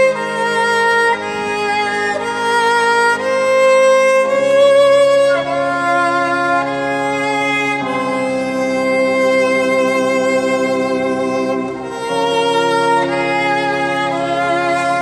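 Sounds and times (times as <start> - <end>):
sustained keyboard chords: 0.0 - 15.0
violin slow melody: 0.0 - 15.0.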